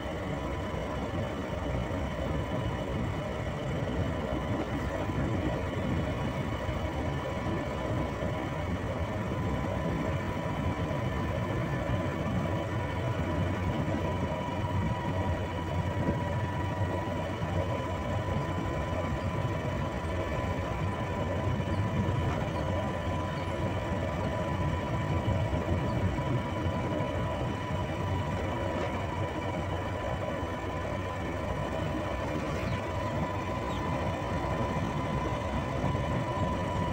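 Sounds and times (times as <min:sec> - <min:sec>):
road noise: 0:00.0 - 0:36.9
thin steady whine: 0:00.0 - 0:36.9.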